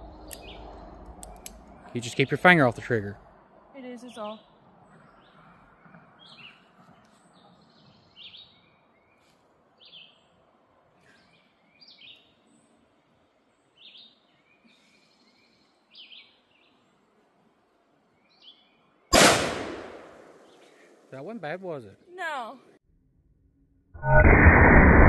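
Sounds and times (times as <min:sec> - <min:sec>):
songbird chirping: 0:00.0 - 0:19.2, 0:19.9 - 0:22.8.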